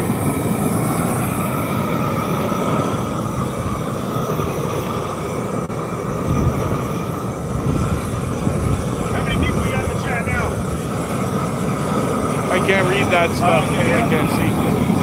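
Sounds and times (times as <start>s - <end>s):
faint machine whine: 0.0s - 15.0s
machine grinding asphalt: 0.0s - 15.0s.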